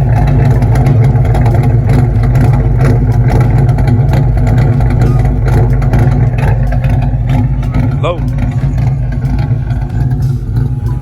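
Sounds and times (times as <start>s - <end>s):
car engine running loudly: 0.0s - 11.0s.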